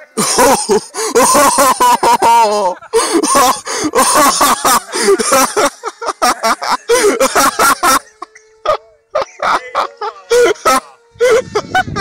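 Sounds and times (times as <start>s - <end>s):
faint steady hum: 0.0s - 12.0s
people talking and laughing: 0.0s - 12.0s.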